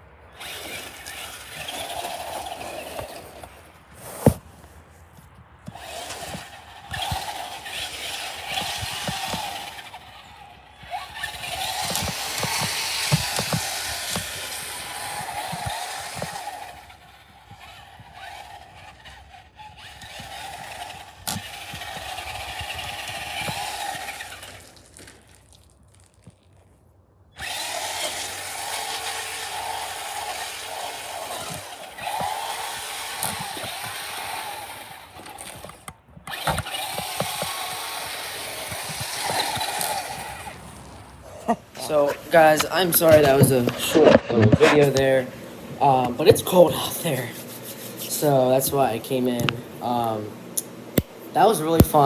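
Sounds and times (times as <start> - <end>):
toy car motor whining: 0.0 - 4.8, 5.6 - 26.5, 27.4 - 52.0.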